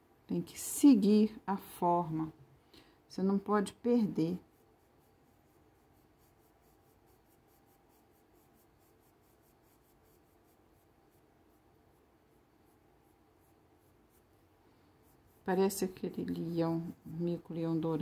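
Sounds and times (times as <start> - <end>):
colored pencil scratching on paper: 0.5 - 2.4, 3.2 - 18.0.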